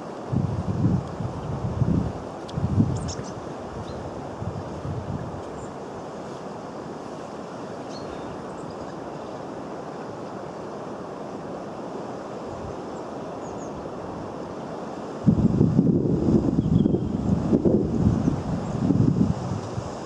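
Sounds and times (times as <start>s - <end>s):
wind-like hiss: 0.0s - 20.0s.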